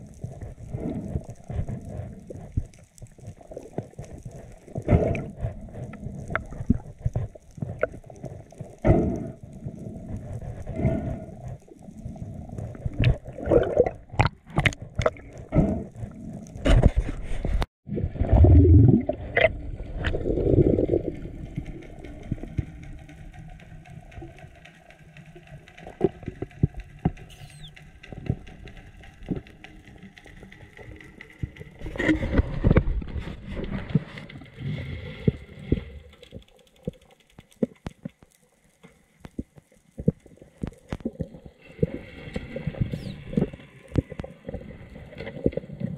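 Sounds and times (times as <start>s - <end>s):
muffled underwater knocks and clicks: 0.1s - 9.4s, 12.7s - 17.7s, 18.9s - 45.9s.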